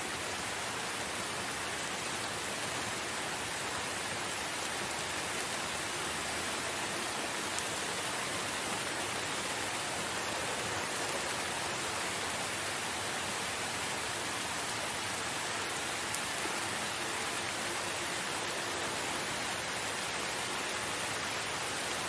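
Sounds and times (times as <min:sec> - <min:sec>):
steady rainfall: 0:00.0 - 0:22.0.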